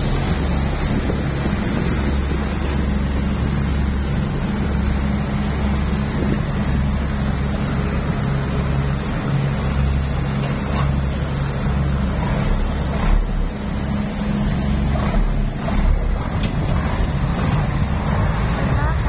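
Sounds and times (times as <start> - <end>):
boat engine humming: 0.0 - 19.0
water washing: 0.0 - 19.0
wind: 0.0 - 19.0.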